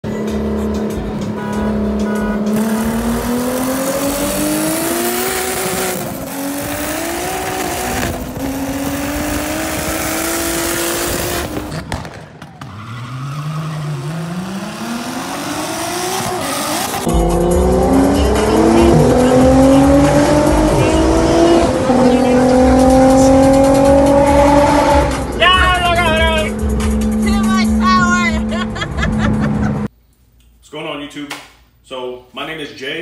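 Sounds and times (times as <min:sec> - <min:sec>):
car engine at full throttle: 0:00.0 - 0:12.0, 0:13.0 - 0:29.9.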